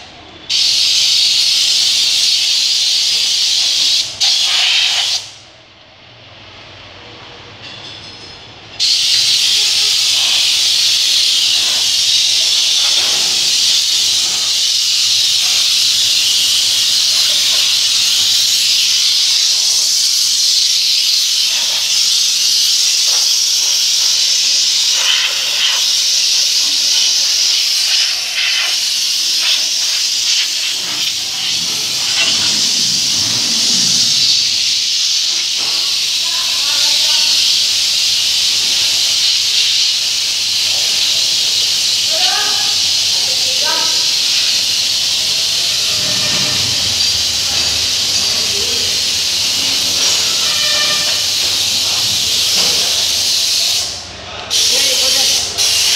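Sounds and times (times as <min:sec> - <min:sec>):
spray gun hissing: 0:00.5 - 0:05.4, 0:08.8 - 0:55.9.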